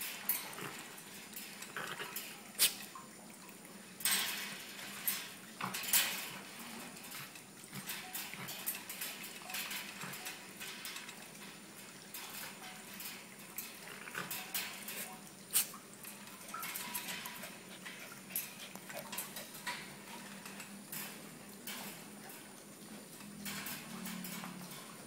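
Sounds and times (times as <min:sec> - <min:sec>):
wire cage clinking and rattling: 0:00.0 - 0:03.1, 0:03.9 - 0:25.0.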